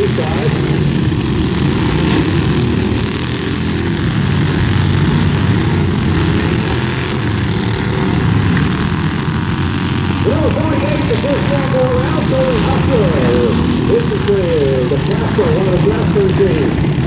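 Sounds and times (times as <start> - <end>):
riding lawn mower engines running: 0.0 - 17.0.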